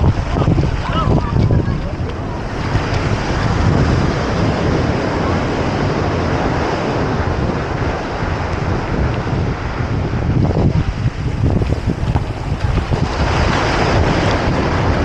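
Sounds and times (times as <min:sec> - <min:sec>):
ocean surf: 0:00.0 - 0:15.0
wind rumbling on microphone: 0:00.0 - 0:15.0.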